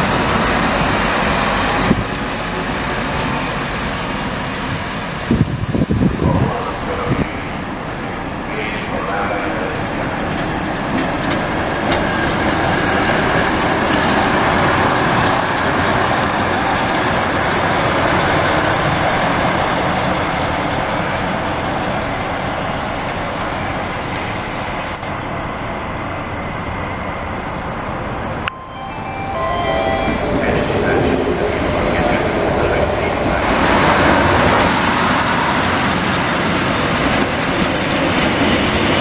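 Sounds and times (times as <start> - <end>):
diesel locomotive passing: 0.0 - 39.0.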